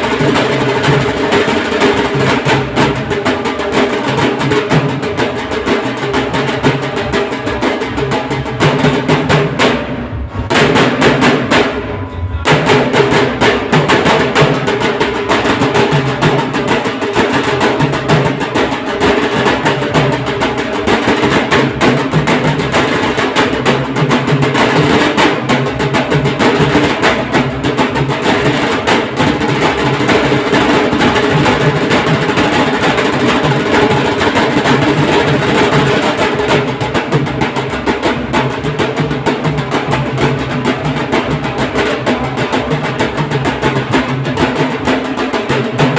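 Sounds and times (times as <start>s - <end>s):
dhol drums fast rhythm: 0.0s - 45.9s.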